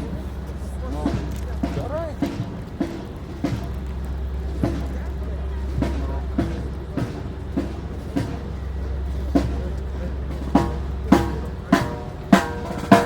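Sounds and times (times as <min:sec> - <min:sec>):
low steady rumble: 0:00.0 - 0:13.0
military drums beating a march: 0:00.0 - 0:13.0.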